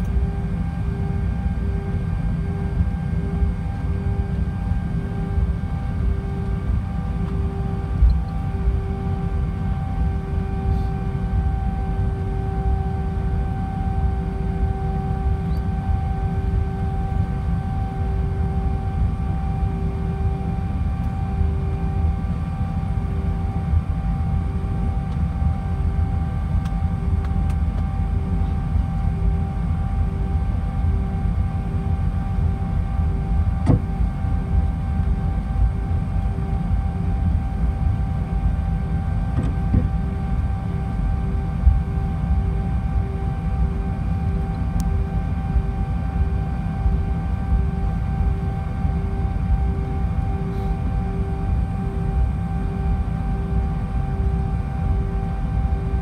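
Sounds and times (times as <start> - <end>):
faint whining tones: 0.0 - 56.0
jet engines idling rumble: 0.0 - 56.0.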